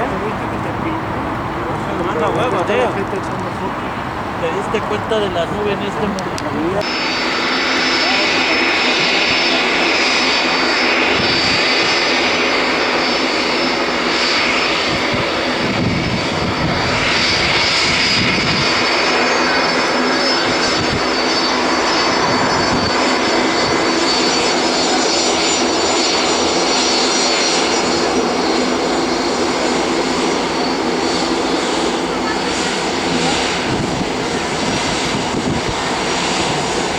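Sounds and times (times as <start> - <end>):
aircraft engines running: 0.0 - 36.9.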